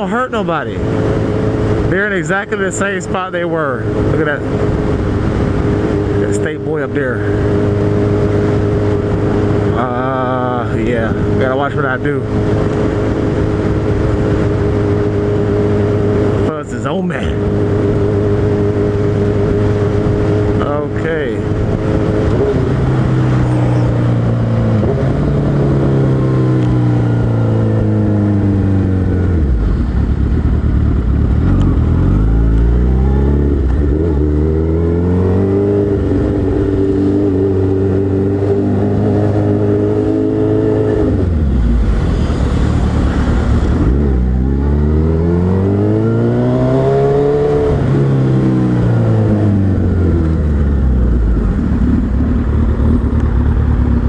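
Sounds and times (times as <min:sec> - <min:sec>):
motorcycle engine accelerating: 0:00.0 - 0:54.0
rush of noise: 0:00.0 - 0:54.0.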